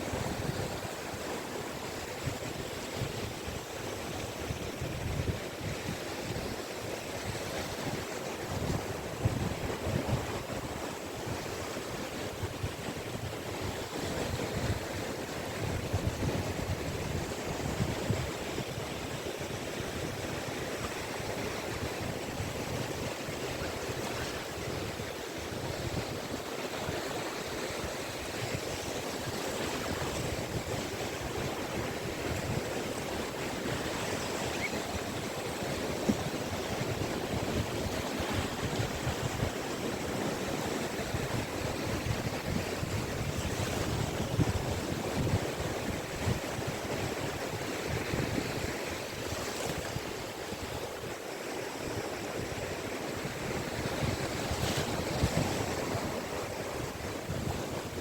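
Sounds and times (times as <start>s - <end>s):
waves breaking on beach: 0.0s - 58.0s
wind on microphone: 0.0s - 58.0s.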